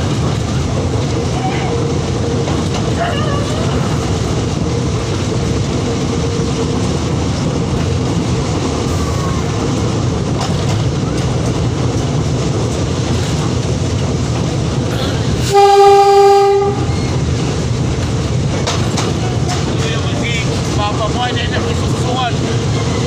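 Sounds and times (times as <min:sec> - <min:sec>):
train rumble on tracks: 0:00.0 - 0:23.0.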